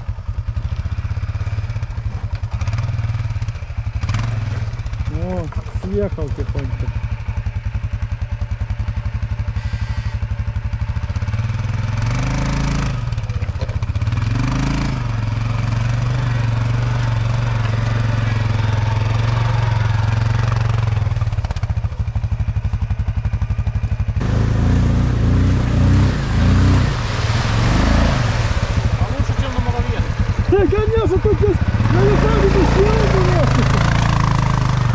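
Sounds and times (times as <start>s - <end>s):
quad bike engine revving: 0.0s - 34.9s.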